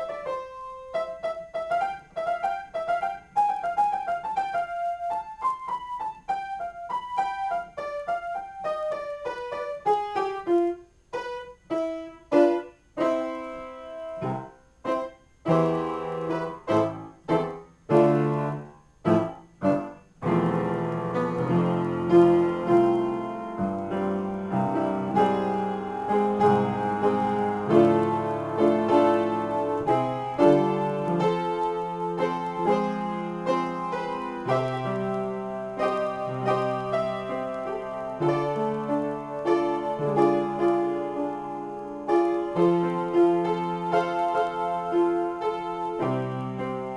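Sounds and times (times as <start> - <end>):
solo piano playing: 0.0 - 46.9.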